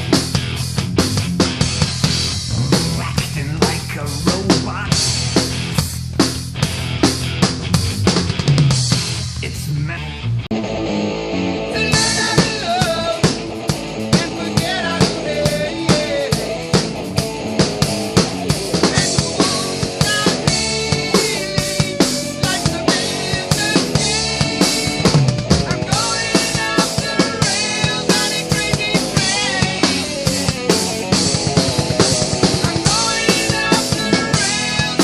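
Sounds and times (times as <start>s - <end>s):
electric guitar: 0.0s - 35.0s
heavy metal backing track: 0.0s - 35.0s
rock drum kit playing: 0.0s - 35.0s.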